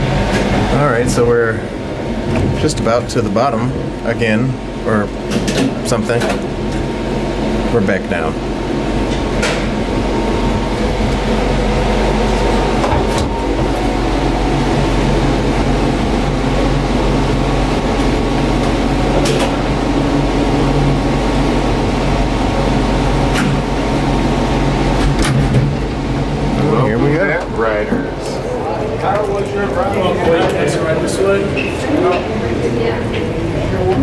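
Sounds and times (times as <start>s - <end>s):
tram mechanical hum and whir: 0.0s - 34.0s.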